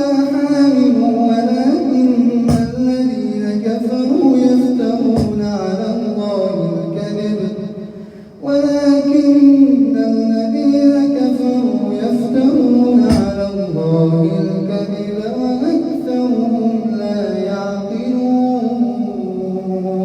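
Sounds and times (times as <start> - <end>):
man chanting recitation: 0.0 - 20.0.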